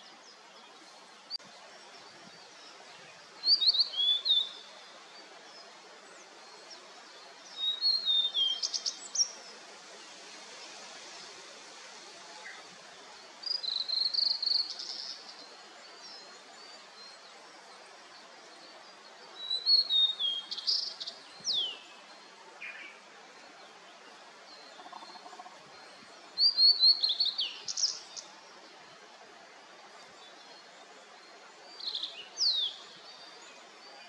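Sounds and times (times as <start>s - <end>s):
soft background hiss: 0.0s - 34.0s.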